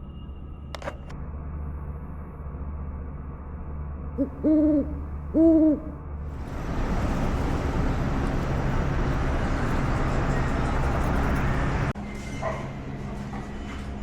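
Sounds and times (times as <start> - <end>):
vehicle running hum: 0.7 - 14.0.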